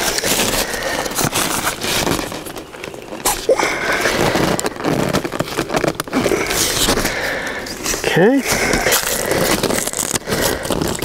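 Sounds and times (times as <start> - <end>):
nylon tent fabric rustling: 0.0 - 11.0.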